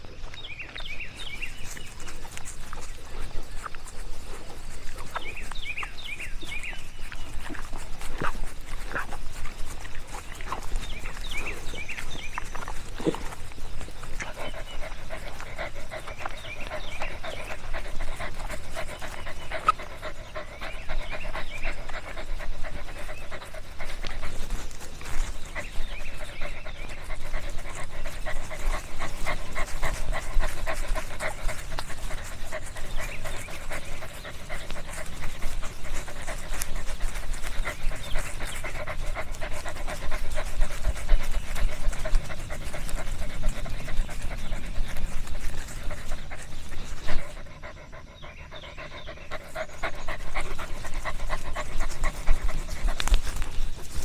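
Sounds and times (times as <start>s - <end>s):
dog panting: 0.0s - 54.0s.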